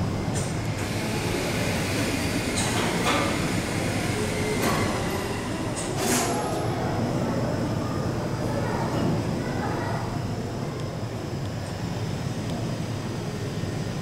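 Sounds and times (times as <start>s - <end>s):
low railway rumble: 0.0s - 14.0s.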